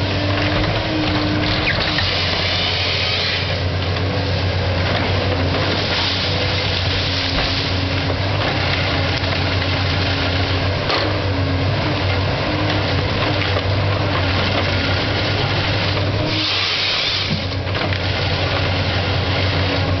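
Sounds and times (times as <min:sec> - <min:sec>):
harvester engine and hydraulics: 0:00.0 - 0:20.0.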